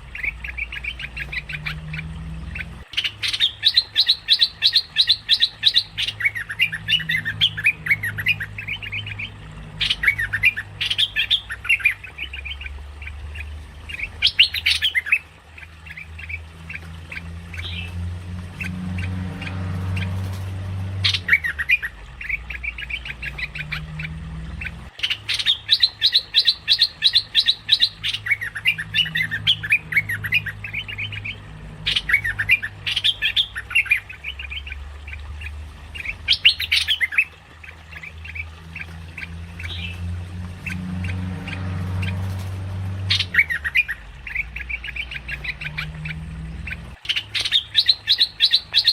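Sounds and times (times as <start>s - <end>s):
bird chattering calls: 0.0s - 20.4s, 21.0s - 48.9s.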